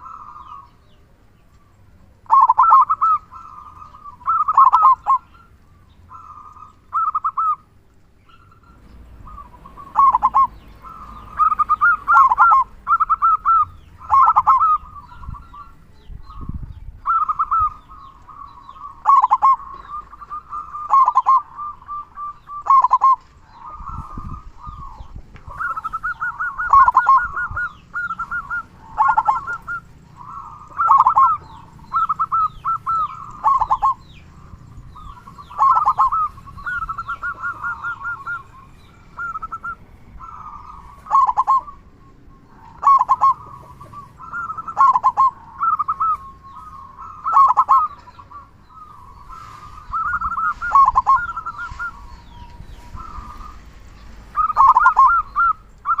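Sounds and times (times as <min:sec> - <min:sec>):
dove cooing: 0:00.0 - 0:01.1, 0:02.2 - 0:56.0.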